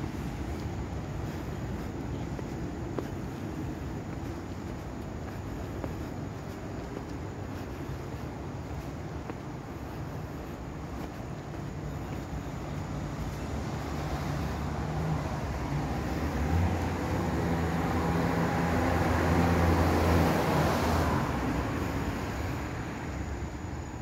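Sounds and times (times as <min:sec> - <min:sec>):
vehicle passing: 0:00.0 - 0:23.4.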